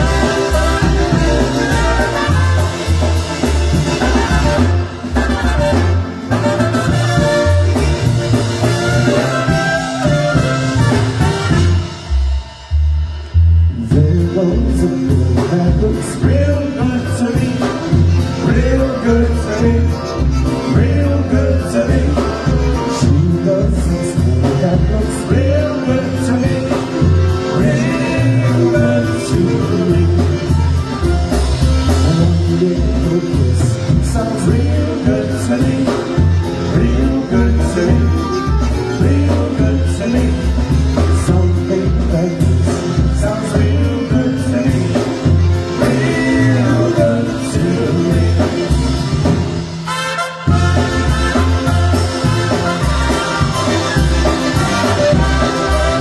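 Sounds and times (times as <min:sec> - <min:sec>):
person singing: 0:00.0 - 0:05.8, 0:13.7 - 0:49.5, 0:50.5 - 0:56.0
polka band playing: 0:00.0 - 0:56.0.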